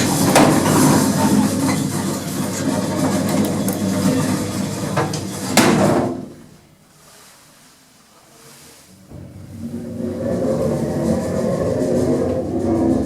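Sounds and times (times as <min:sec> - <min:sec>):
lift mechanical hum: 0:00.0 - 0:06.7, 0:08.9 - 0:13.0.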